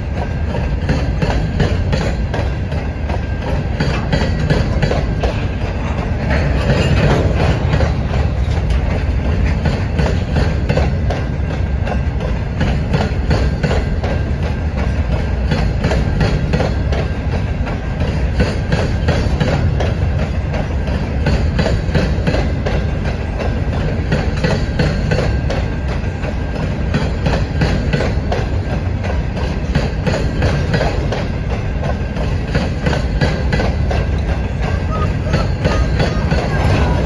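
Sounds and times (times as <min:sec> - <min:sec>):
freight train rumbling past: 0:00.0 - 0:37.0
train wheels clattering over rail joints: 0:00.0 - 0:37.0.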